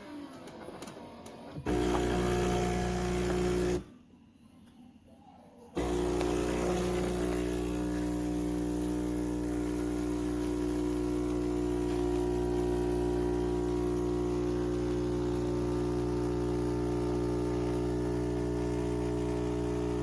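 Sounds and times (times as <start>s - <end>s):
espresso machine pump humming: 1.6s - 3.9s, 5.8s - 20.0s.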